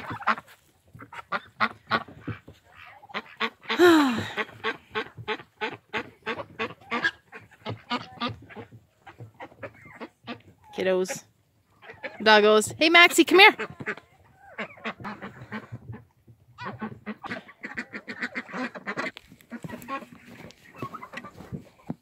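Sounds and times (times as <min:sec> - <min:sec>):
farmyard waterfowl calling: 0:00.0 - 0:22.0.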